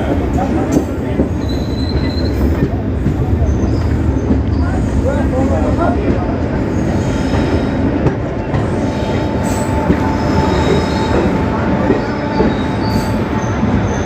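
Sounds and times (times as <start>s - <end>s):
train coach rumbling: 0.0s - 14.0s.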